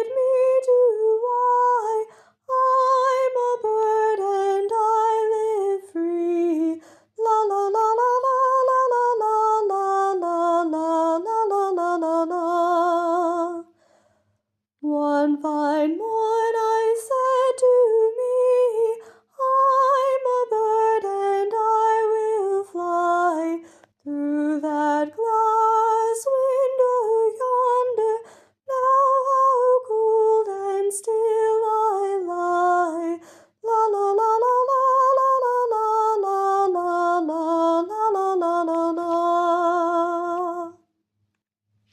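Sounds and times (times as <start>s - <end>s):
woman singing unaccompanied: 0.0s - 13.7s, 14.8s - 40.8s.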